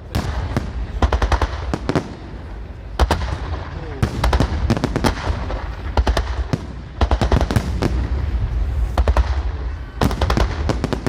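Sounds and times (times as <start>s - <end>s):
fireworks cracking and banging: 0.0s - 11.0s
steady low rumble: 0.0s - 11.0s.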